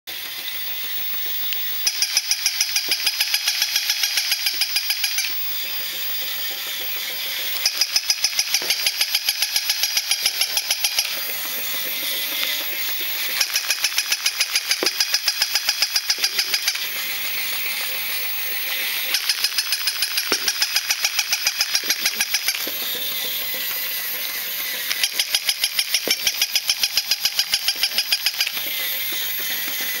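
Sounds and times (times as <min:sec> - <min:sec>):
toy motor and gears clicking: 0:00.1 - 0:30.0
toy motor whirring: 0:00.1 - 0:30.0.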